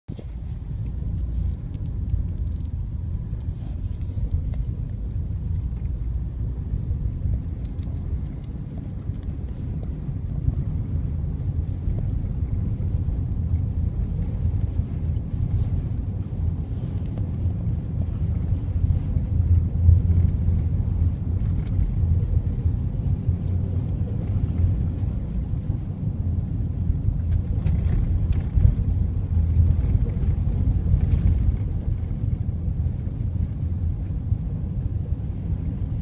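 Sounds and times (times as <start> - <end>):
engine and tyre rumble in cabin: 0.0 - 36.0.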